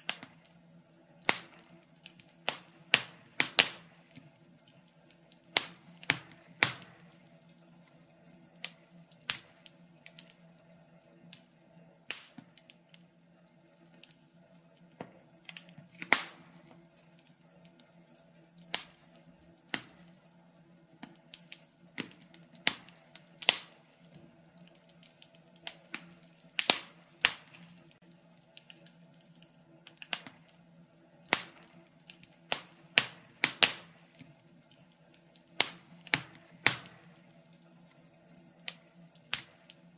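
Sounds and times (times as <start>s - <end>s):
faint steady hiss: 0.0s - 39.9s
wood fire crackling and popping: 0.0s - 39.9s.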